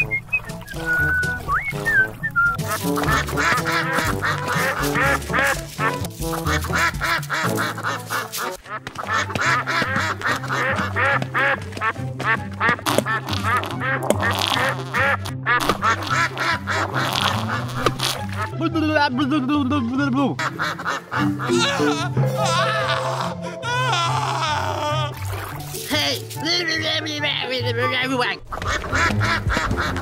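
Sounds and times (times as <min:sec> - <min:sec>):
duck quacking: 0:00.0 - 0:19.4, 0:20.4 - 0:30.0.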